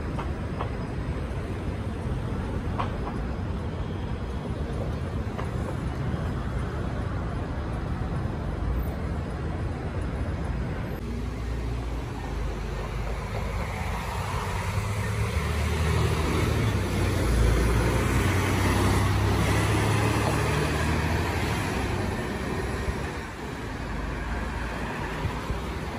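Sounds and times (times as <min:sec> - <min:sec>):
bus engine hum: 0:00.0 - 0:25.9
passing car traffic: 0:00.0 - 0:25.9.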